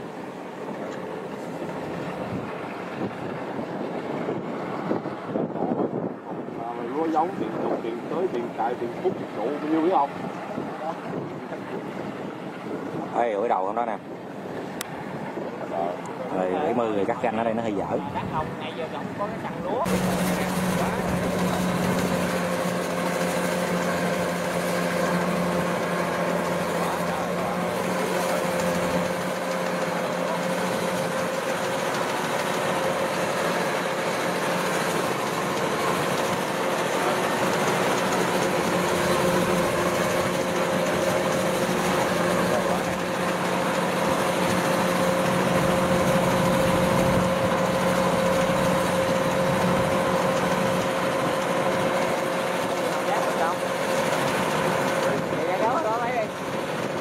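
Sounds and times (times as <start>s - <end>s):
combine harvester engine drone: 0.0s - 57.0s
constant whine: 0.0s - 57.0s.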